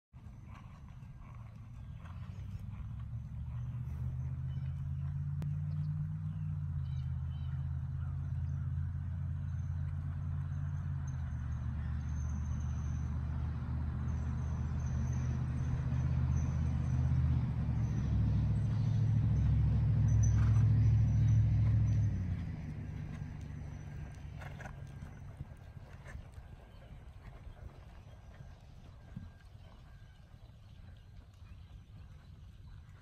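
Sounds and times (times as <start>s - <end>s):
engine droning: 0.2s - 33.0s.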